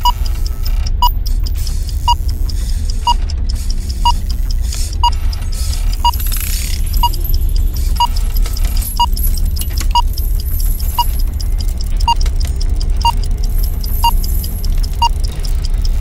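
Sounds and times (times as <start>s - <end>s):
countdown timer beeps: 0.0s - 16.0s
steady deep rumble: 0.0s - 16.0s.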